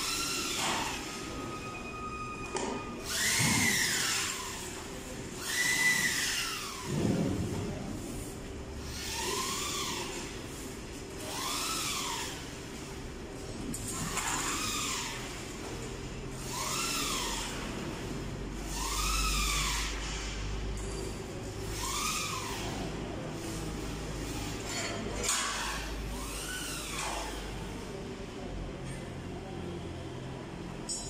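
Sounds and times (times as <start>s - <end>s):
factory machinery hum: 0.0s - 31.0s.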